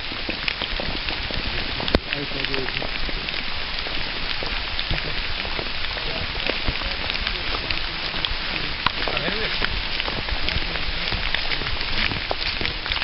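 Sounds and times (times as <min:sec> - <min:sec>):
rain falling on wet leaves: 0:00.0 - 0:13.0.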